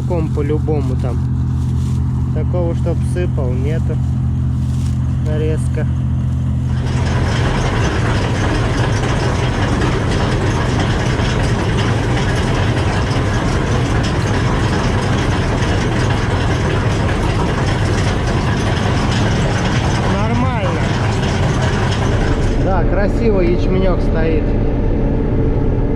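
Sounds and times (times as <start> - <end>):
threshing mechanism clatter: 0.0 - 23.6
combine harvester engine running: 0.0 - 25.9.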